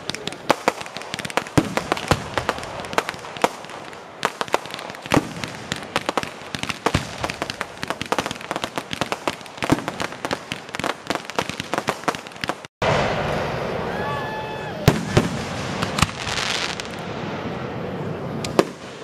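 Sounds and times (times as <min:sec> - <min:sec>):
fireworks bangs and crackles: 0:00.0 - 0:14.0, 0:14.7 - 0:19.0.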